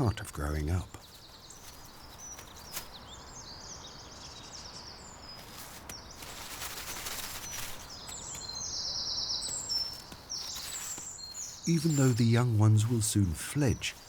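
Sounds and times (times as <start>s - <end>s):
soft outdoor hiss: 0.0s - 14.0s.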